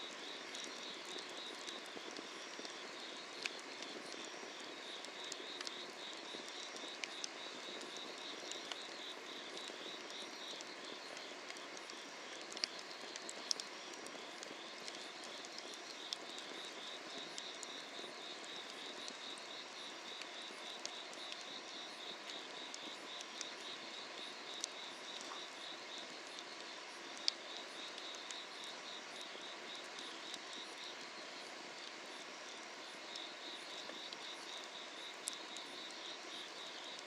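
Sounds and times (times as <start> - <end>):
firewood crackling and popping: 0.0 - 37.0
night insects chirping: 0.0 - 37.0.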